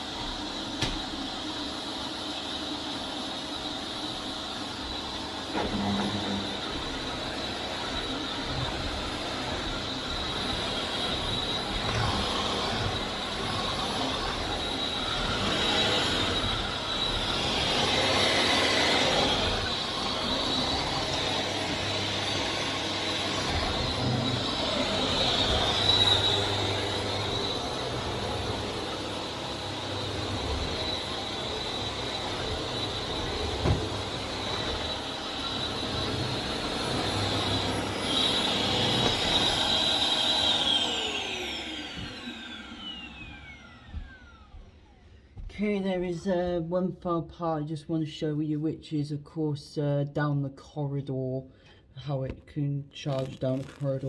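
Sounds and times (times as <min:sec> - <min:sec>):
vacuum cleaner motor whine: 0:00.0 - 0:45.5.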